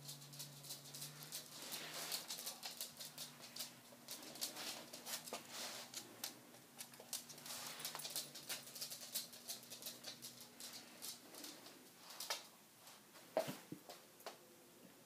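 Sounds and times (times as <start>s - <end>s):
light clicks and scratching: 0.0s - 13.5s
faint steady hum: 0.0s - 15.0s.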